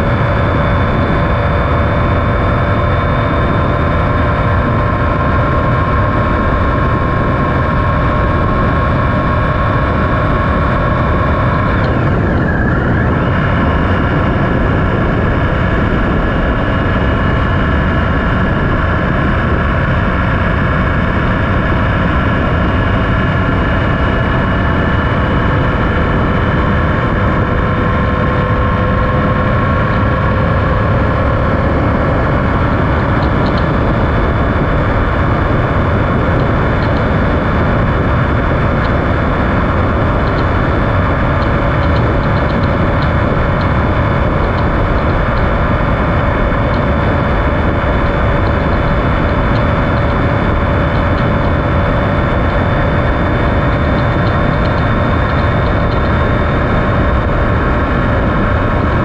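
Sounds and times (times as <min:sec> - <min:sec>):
loud wind noise: 0:00.0 - 0:59.0
motorcycle engine cruising: 0:00.0 - 0:59.0.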